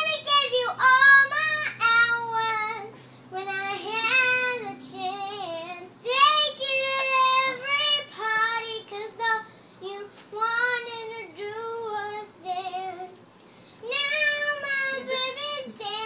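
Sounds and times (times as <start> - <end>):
girl singing: 0.0 - 16.0.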